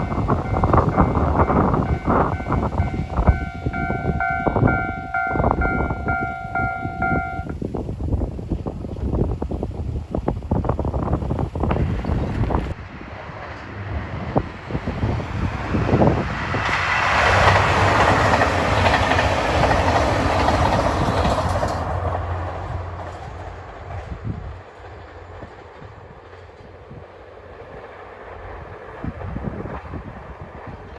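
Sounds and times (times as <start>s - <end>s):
train wheels on rails: 0.0s - 30.9s.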